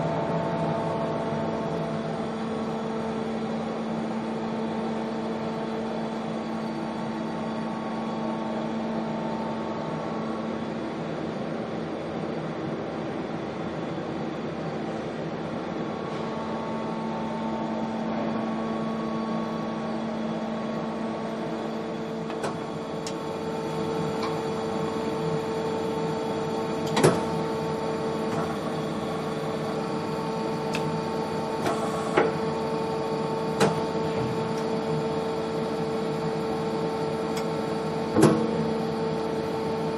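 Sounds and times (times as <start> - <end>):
machine hum: 0.0 - 12.0, 14.2 - 39.9.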